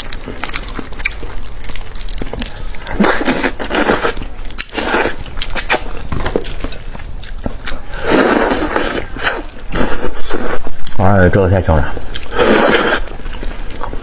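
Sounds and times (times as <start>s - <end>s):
wet chewing and sucking: 0.0s - 11.0s, 11.9s - 14.0s.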